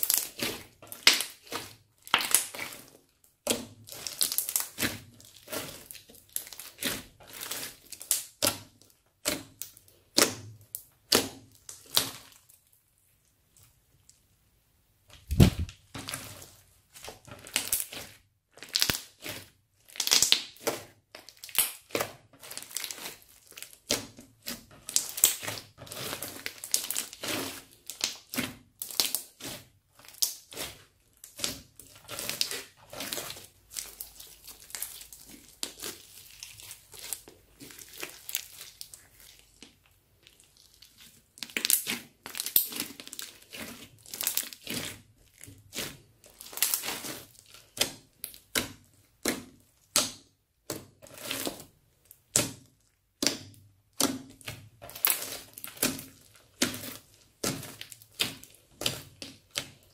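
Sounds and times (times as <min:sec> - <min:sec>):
crunchy slime crackling and popping: 0:00.0 - 0:12.8, 0:15.2 - 0:59.9.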